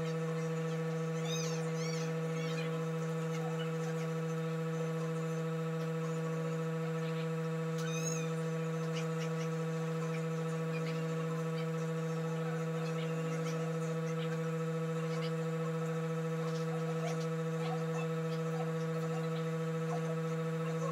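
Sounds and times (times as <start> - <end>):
electrical hum: 0.0 - 20.9
wavering chirp: 0.0 - 20.9.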